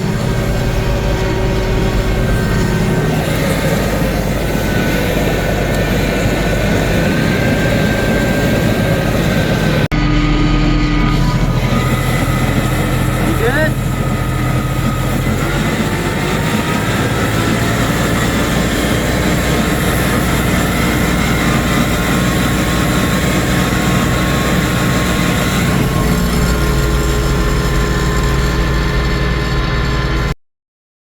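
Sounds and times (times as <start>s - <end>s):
vehicle engine running: 0.0s - 30.4s.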